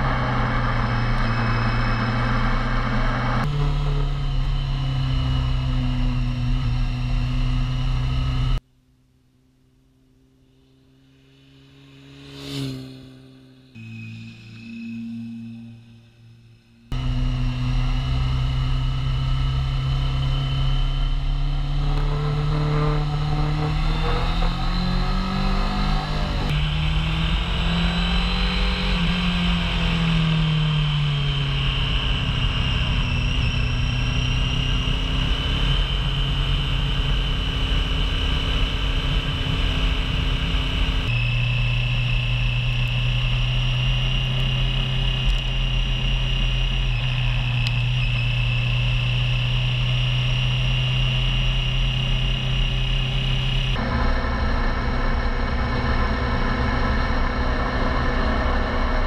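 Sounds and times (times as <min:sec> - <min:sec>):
motorcycle engine running: 0:00.0 - 0:08.6, 0:10.2 - 0:59.0
wind and road noise: 0:00.0 - 0:08.6, 0:09.3 - 0:59.0.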